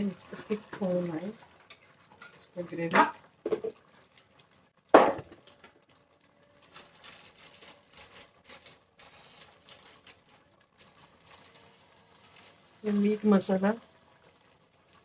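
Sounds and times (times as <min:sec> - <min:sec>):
faint kitchen clicks and clinks: 0:00.2 - 0:06.5, 0:07.2 - 0:15.0.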